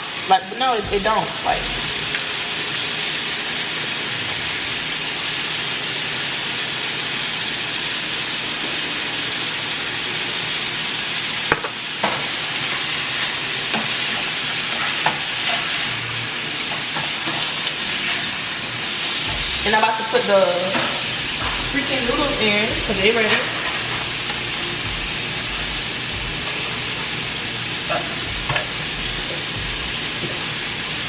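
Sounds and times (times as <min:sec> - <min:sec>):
food sizzling in frying pan: 0:00.0 - 0:31.0.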